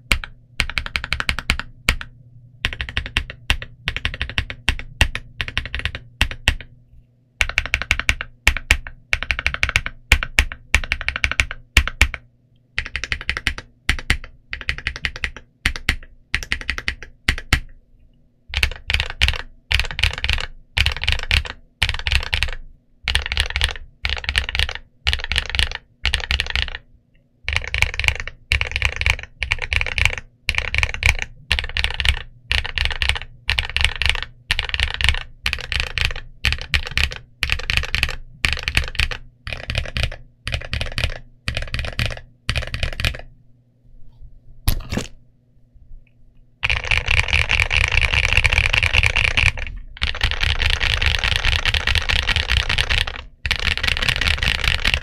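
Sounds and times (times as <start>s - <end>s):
mechanical keyboard typing: 0.0s - 6.7s, 7.4s - 17.7s, 18.5s - 26.8s, 27.4s - 43.3s, 46.6s - 55.0s.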